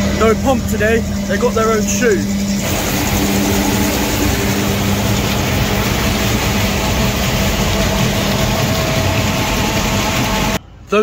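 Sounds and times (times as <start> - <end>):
concrete mixer lorry running: 0.0 - 11.0.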